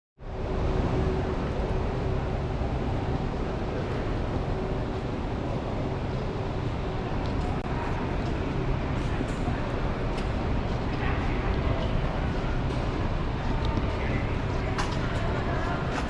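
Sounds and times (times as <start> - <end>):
mid-pitched hum: 0.2 - 16.0
vehicle rumble and hiss: 0.2 - 16.0.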